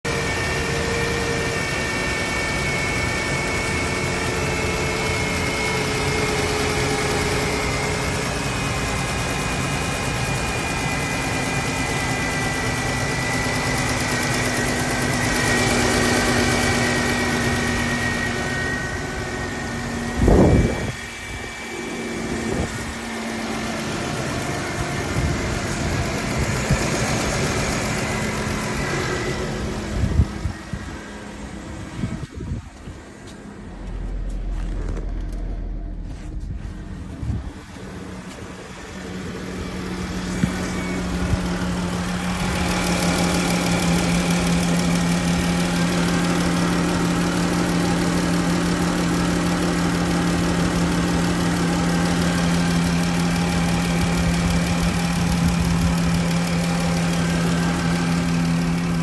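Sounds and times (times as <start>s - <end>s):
car engine idling with whine: 0.0s - 59.0s.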